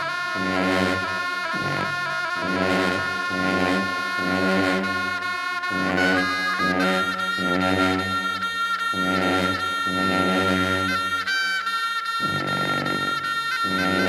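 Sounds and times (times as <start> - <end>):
low drone tones: 0.0 - 11.3
shawms playing reedy melody: 0.0 - 14.0.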